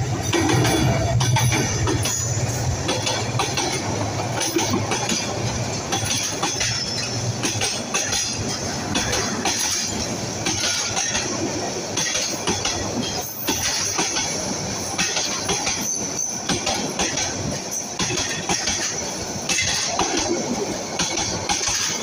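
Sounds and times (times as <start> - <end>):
high squeal of wheels on rails: 0.0 - 22.0
train wheels clattering over rail joints: 0.0 - 22.0.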